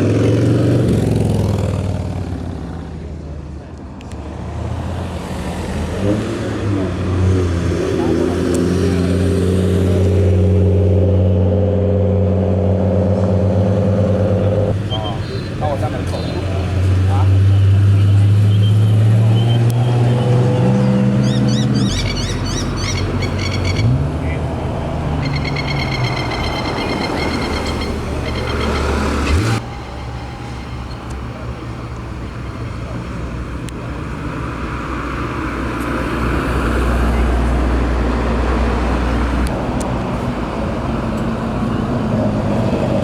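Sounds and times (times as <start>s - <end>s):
car engine droning: 0.0s - 43.0s
traffic: 0.0s - 43.0s.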